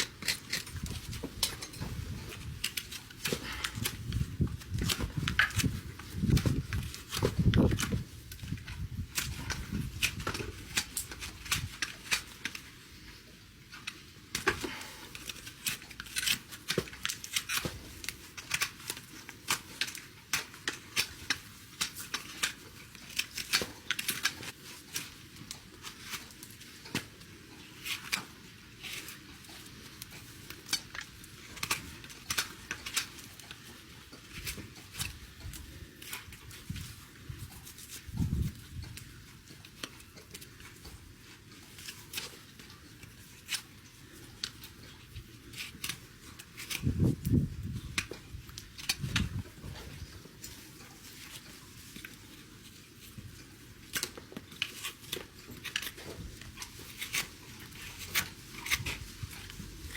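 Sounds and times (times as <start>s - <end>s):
tools snipping and scraping hoof: 0.0s - 59.9s.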